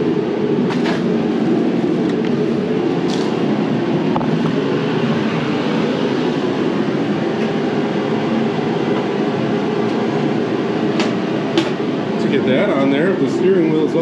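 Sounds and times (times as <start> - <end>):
heater rushing hum: 0.0 - 14.0.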